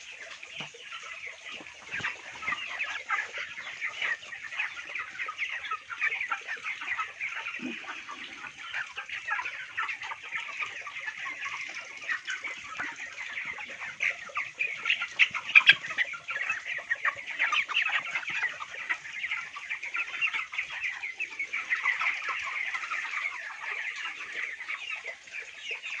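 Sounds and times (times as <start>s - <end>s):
chickens peeping and cheeping: 0.0s - 26.0s.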